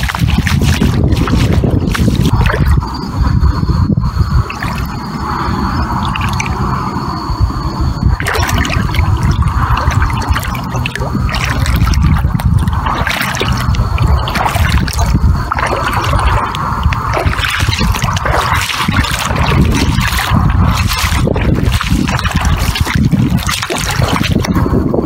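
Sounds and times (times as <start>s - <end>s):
small splashes: 0.0s - 2.8s, 4.5s - 5.0s, 6.0s - 6.6s, 8.2s - 24.6s
water sloshing around legs: 0.0s - 2.9s, 4.4s - 5.0s, 5.8s - 6.6s, 8.2s - 24.6s
low rumble: 0.0s - 25.0s.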